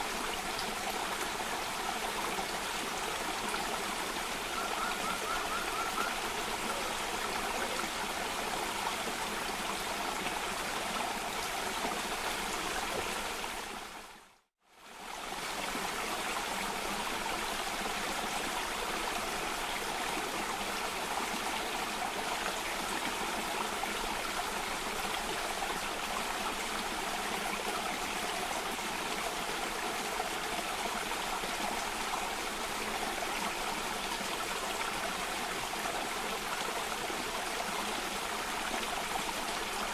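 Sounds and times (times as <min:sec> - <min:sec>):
water rushing down a cascade: 0:00.0 - 0:14.2, 0:14.9 - 0:39.9.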